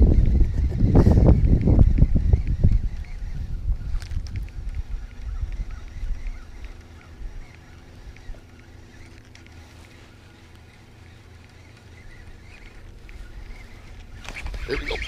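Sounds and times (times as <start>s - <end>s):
bird chirps: 0.0s - 15.0s
faint hum: 0.0s - 15.0s
steady low rumble: 0.0s - 15.0s.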